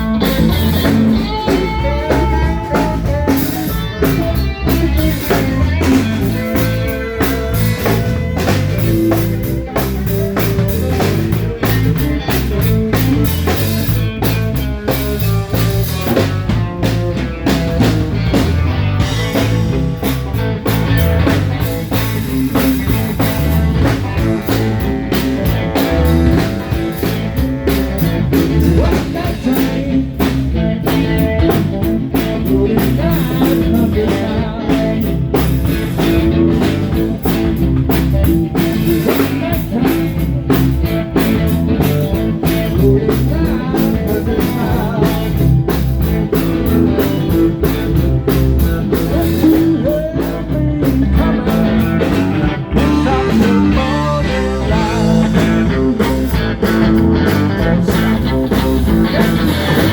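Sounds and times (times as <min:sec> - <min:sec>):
blues-rock band playing: 0:00.0 - 0:59.9.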